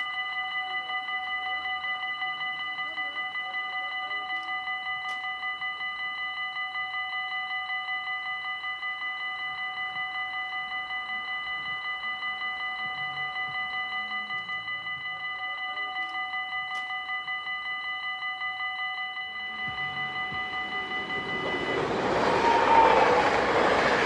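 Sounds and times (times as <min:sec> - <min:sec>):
level crossing warning bell: 0:00.0 - 0:24.0.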